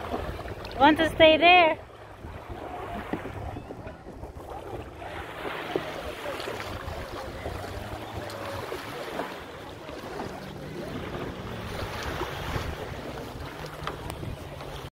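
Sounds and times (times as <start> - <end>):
small waves washing onto sand: 0.0 - 14.9
wind buffeting microphone: 0.0 - 14.9.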